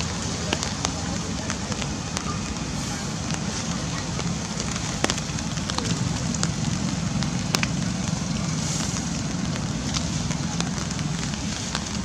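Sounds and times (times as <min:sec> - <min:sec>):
drops ticking close by: 0:00.0 - 0:12.0
rain falling: 0:00.0 - 0:12.0.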